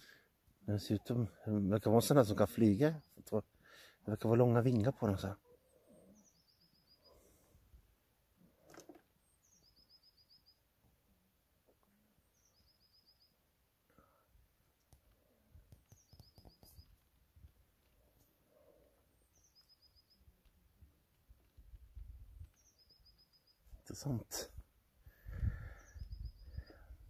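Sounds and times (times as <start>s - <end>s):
songbird song: 0.0s - 27.0s.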